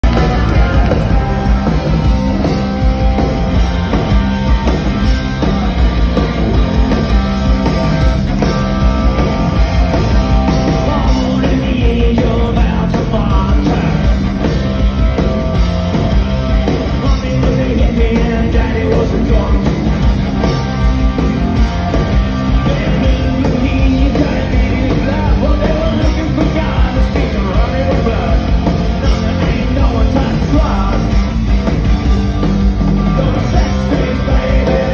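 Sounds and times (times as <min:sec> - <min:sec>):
live rock band: 0:00.0 - 0:34.9.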